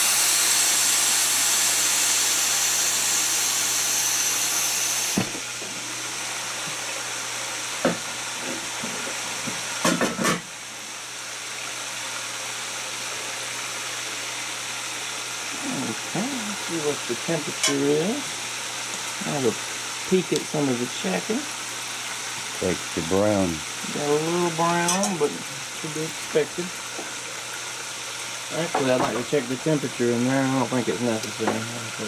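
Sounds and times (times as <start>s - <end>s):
oil sizzling: 0.0s - 32.0s
pressure cooker hissing steam: 0.0s - 32.0s.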